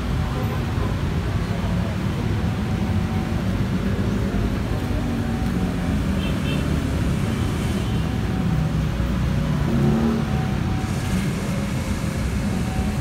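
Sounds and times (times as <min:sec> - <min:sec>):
street traffic passing: 0:00.0 - 0:13.0.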